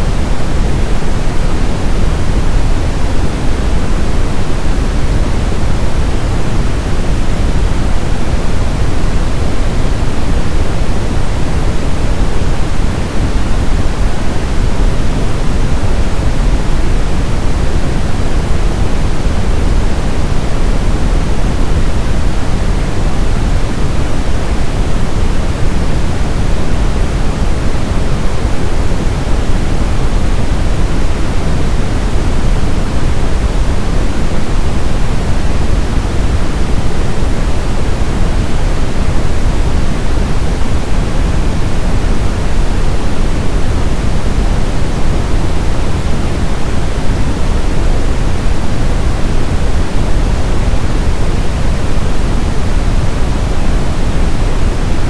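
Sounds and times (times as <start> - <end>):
low brown noise rumble: 0.0 - 55.0.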